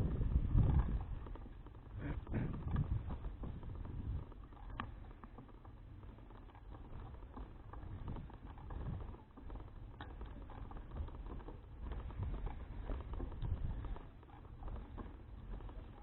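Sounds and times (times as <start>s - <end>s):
bicycle clicks and rattles: 0.0s - 16.0s
wind rumble on microphone: 0.0s - 16.0s.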